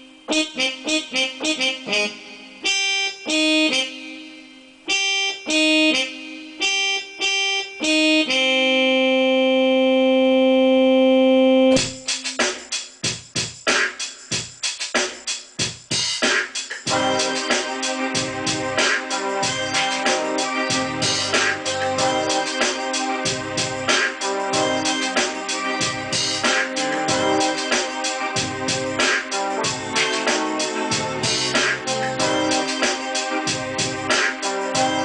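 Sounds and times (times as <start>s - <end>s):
keyboard melody: 0.0s - 12.6s, 16.9s - 35.0s.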